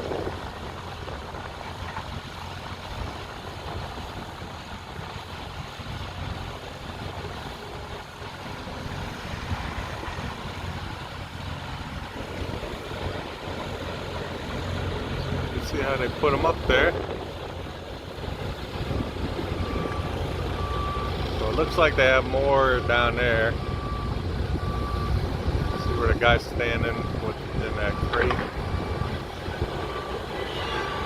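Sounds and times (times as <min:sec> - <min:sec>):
heavy machinery engine idling: 0:00.0 - 0:31.0.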